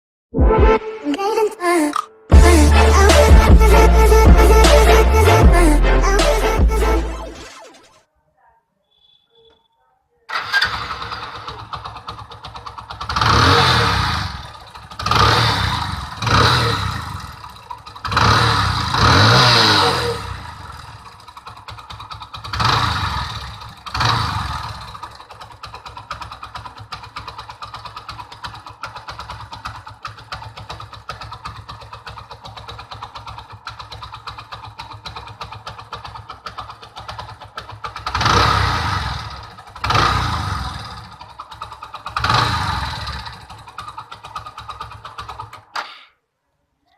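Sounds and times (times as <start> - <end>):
motorcycle engine idling and revving: 2.3 - 5.8, 10.3 - 46.2.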